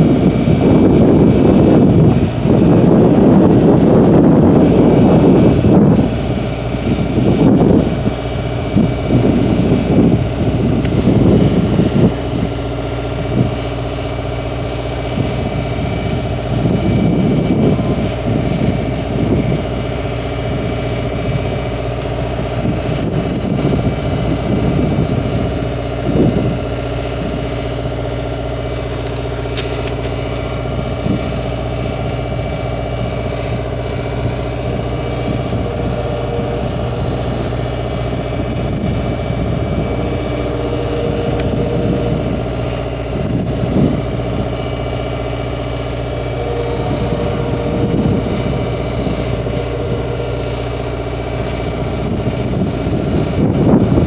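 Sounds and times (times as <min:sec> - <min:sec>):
engine-like hum: 0:00.0 - 0:54.0
wind buffeting microphone: 0:00.0 - 0:54.0.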